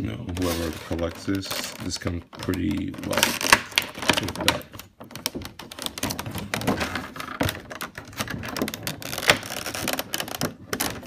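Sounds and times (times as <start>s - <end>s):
plastic packaging crinkling: 0.3s - 11.0s.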